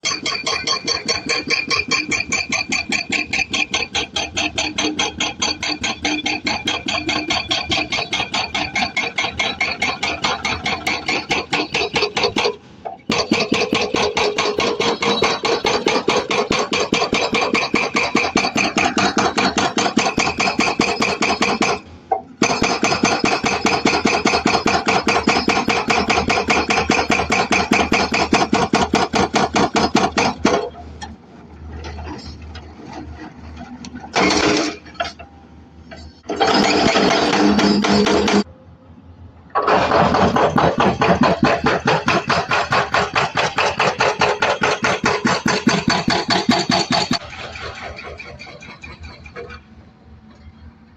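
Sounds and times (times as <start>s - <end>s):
hydraulic breaker hammering: 0.0s - 31.2s, 31.8s - 35.3s, 35.9s - 38.5s, 39.5s - 49.6s
uneven machine noise: 0.0s - 50.9s.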